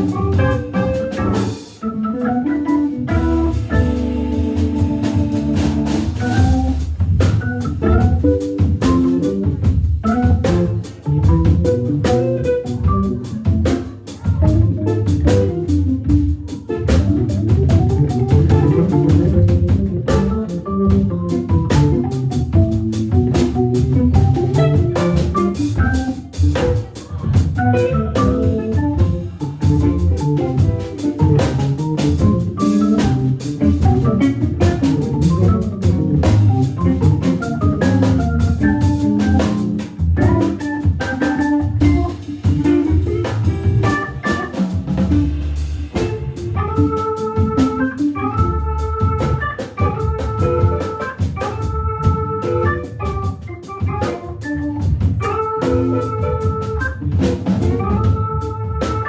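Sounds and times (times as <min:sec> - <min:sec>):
drum kit groove: 0:00.0 - 0:59.0
organ playing jazz-funk line: 0:00.0 - 0:59.0.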